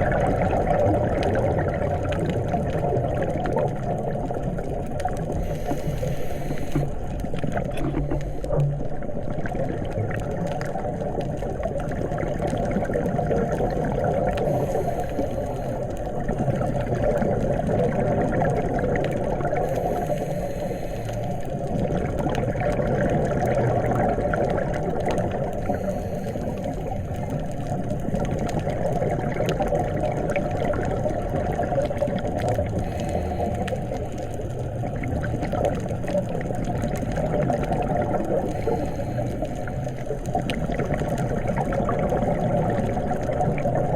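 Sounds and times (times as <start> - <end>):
underwater water noise: 0.0 - 43.9.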